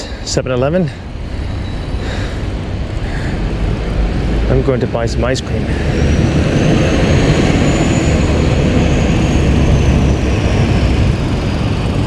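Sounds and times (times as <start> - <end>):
passing engine roar: 1.0 - 12.0.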